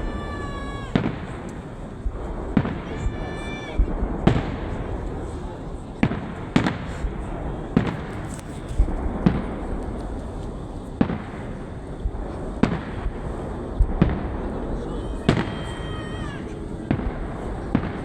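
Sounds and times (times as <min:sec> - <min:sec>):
fireworks bangs: 0:00.0 - 0:18.0
steady background rumble: 0:00.0 - 0:18.0.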